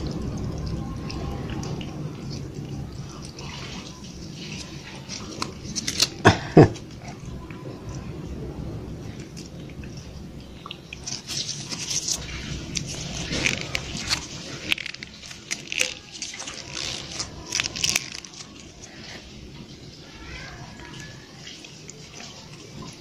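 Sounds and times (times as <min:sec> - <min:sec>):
kittens licking and lapping: 0:00.0 - 0:23.0.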